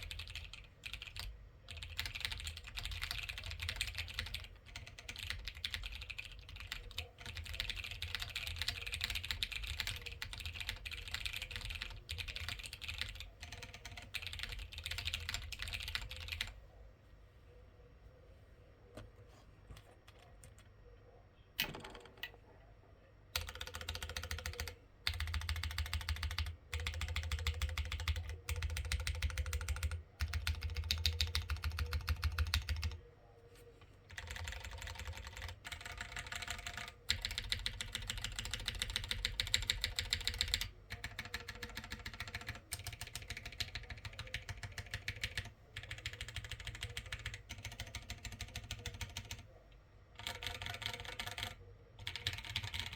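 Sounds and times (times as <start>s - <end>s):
mechanical keyboard typing: 0.0s - 16.6s, 23.4s - 33.0s, 34.1s - 49.6s, 50.2s - 52.9s.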